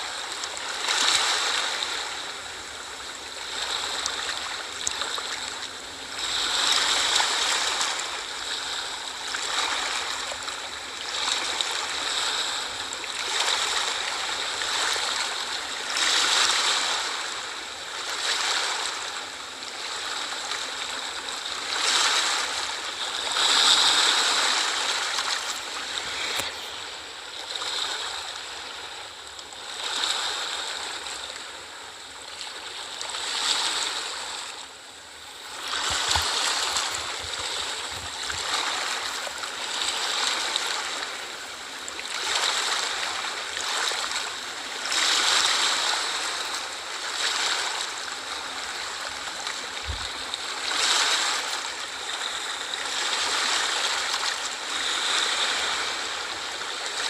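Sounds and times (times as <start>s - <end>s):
small sea waves washing in: 0.0s - 57.0s.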